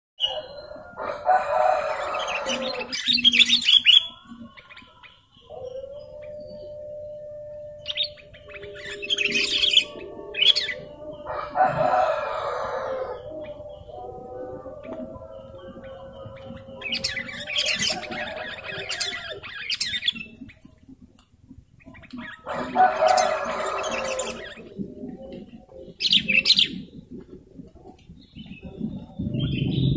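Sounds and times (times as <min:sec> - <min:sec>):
bulbuls chattering calls: 0:00.2 - 0:06.8, 0:07.8 - 0:29.9.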